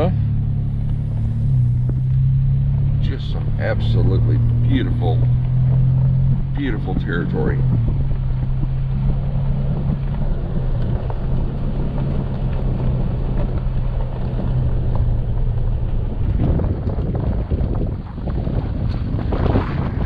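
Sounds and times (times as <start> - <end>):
truck engine hum: 0.0 - 20.0
tyre and road noise: 0.0 - 20.0.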